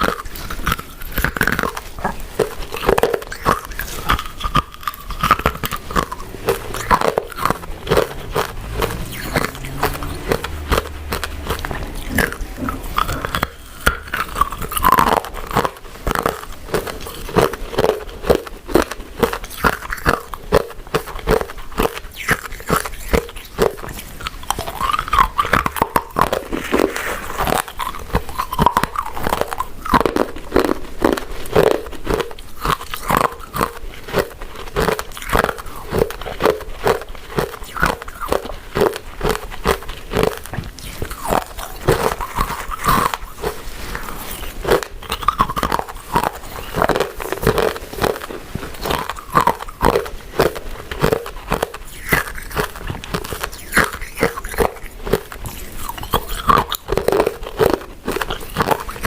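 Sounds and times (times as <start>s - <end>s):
wet chewing and mouth smacks: 0.0s - 59.0s.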